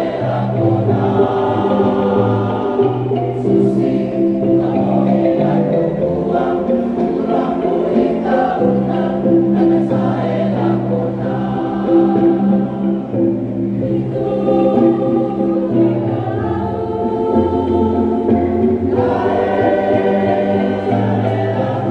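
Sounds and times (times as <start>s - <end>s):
kolintang ensemble playing: 0.0s - 21.9s
mixed choir singing in harmony: 0.0s - 21.9s.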